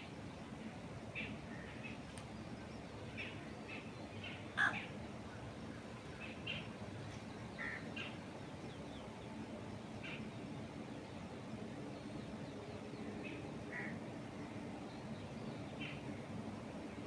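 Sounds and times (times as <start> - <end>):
wind in trees: 0.0 - 17.0
small birds chirping: 1.2 - 17.0.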